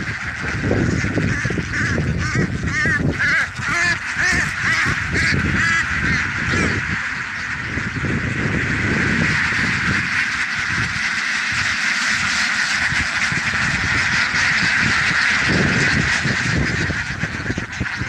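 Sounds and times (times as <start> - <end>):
flock of ducks quacking: 0.0 - 18.0.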